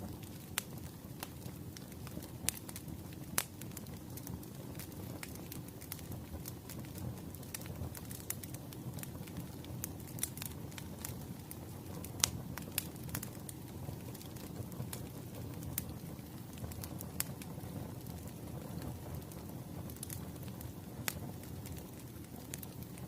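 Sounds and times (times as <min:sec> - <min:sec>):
firewood crackling and popping: 0:00.0 - 0:23.0
low rumble of flames: 0:00.0 - 0:23.0.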